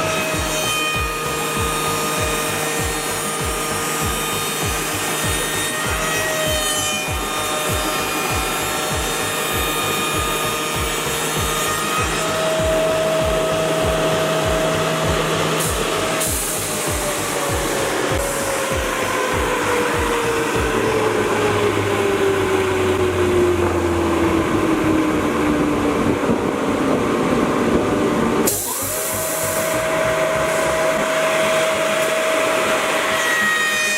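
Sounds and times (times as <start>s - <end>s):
low pulsing: 0.0s - 33.2s
milling machine cutting wood: 0.0s - 33.9s
whining tones: 0.0s - 33.9s.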